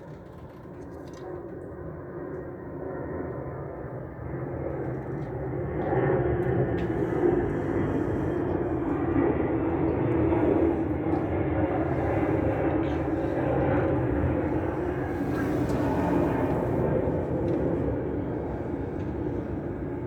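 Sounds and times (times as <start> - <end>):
airplane engines droning: 0.0 - 20.0.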